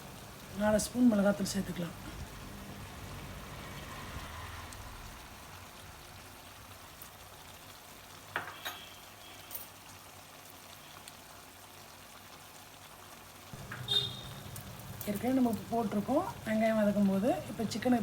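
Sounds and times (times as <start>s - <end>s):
gravy sizzling in a pan: 0.0s - 18.0s.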